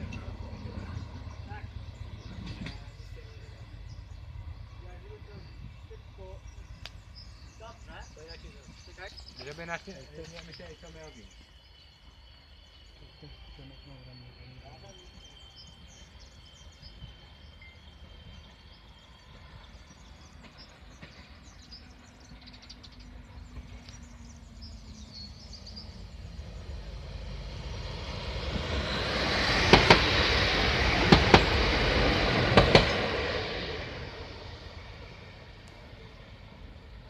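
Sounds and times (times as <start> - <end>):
faint birdsong: 0.0 - 37.0
train wheels rumbling on rail: 0.0 - 37.0.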